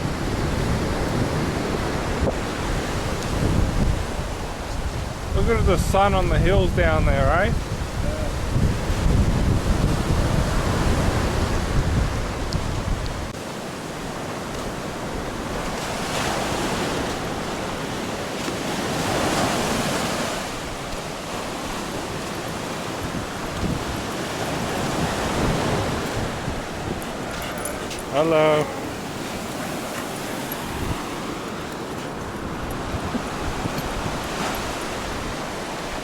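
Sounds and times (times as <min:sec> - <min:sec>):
wind buffeting microphone: 0:00.0 - 0:13.4, 0:14.0 - 0:36.0
ocean surf washing onto beach: 0:00.0 - 0:36.0.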